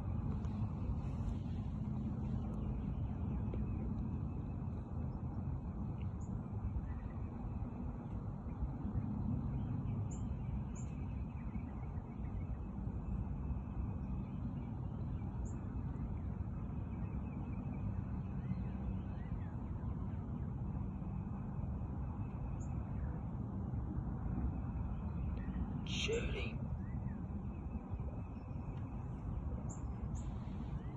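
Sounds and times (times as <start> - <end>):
low outdoor rumble: 0.0 - 30.9.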